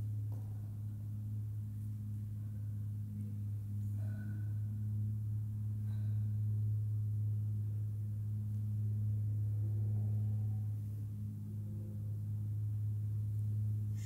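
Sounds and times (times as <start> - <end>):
ambient drone: 0.0 - 14.0.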